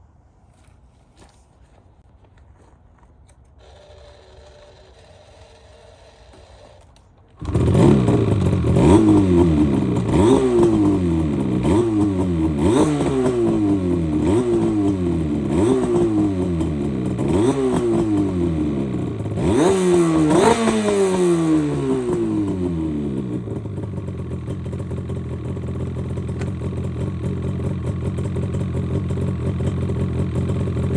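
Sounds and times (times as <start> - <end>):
two-stroke engine revving: 3.6 - 6.8, 7.4 - 30.9.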